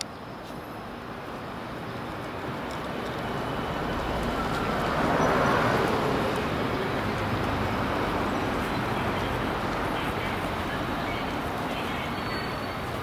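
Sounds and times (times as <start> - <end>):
vehicle passing: 2.1 - 13.0.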